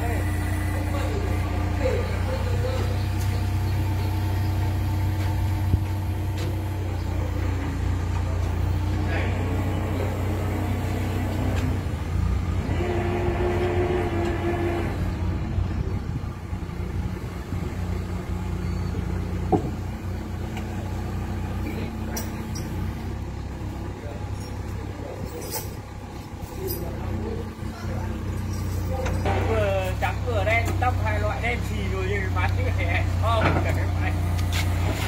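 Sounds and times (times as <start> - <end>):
crane engine humming: 0.0 - 35.0.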